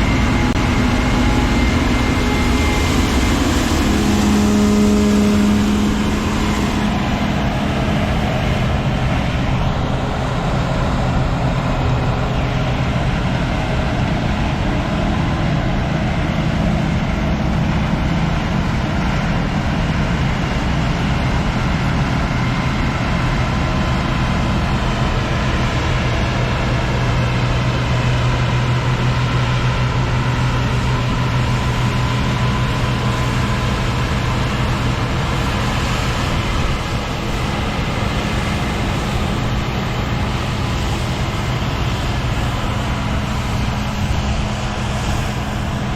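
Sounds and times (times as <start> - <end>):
combine harvester drone: 0.0 - 45.9.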